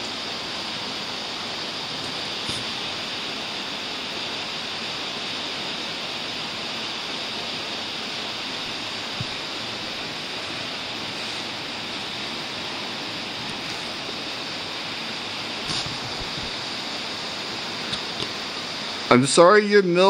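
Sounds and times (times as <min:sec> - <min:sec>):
waterfall rushing: 0:00.0 - 0:19.5.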